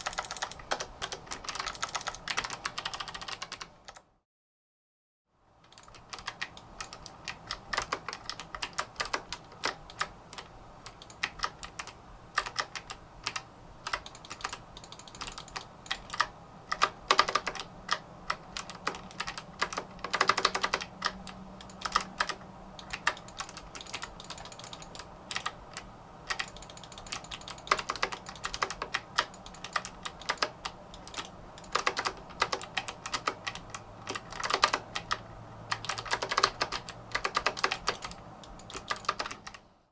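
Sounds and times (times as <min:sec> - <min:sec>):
mechanical keyboard key clicks: 0:05.7 - 0:39.6.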